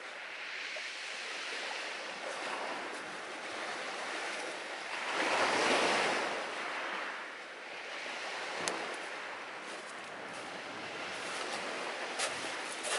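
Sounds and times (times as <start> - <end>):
sea surf washing onto shore: 0.0 - 12.9.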